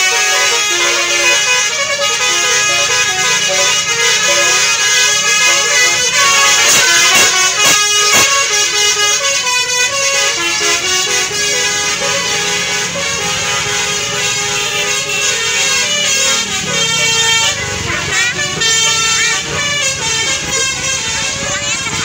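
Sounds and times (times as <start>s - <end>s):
musical air horn melody: 0.0s - 22.0s.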